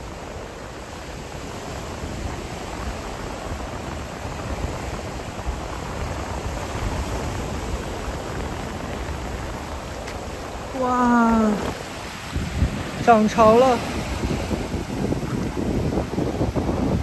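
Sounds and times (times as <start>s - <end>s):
sea surf rushing: 0.0s - 17.0s
wind buffeting microphone: 0.0s - 17.0s.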